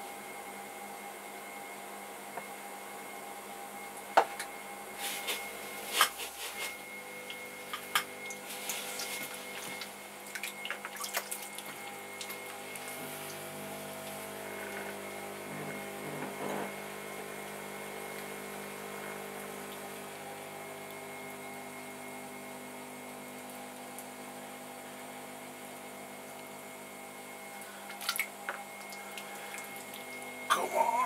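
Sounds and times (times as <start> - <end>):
pottery wheel humming: 0.0 - 31.0.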